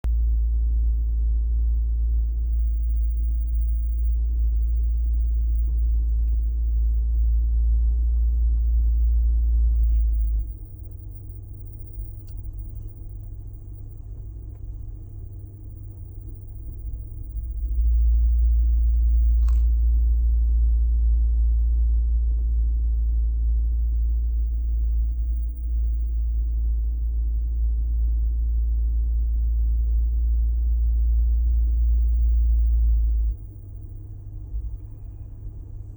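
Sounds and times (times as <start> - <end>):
deep droning rumble: 0.0 - 35.9.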